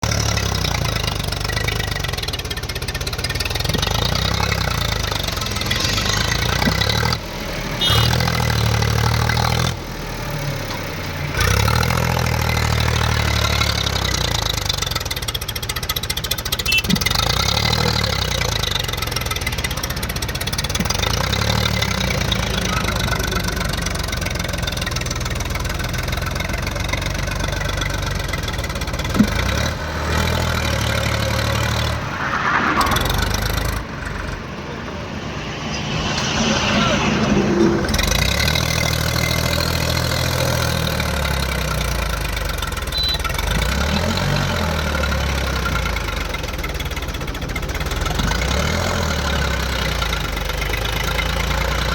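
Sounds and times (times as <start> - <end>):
tractor engine chugging: 0.0 - 51.9.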